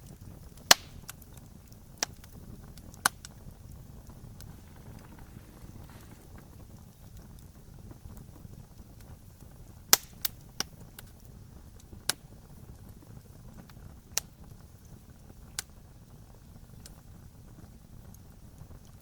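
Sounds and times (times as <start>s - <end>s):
campfire pops: 0.0s - 19.0s
low rumble of flames: 0.0s - 19.0s.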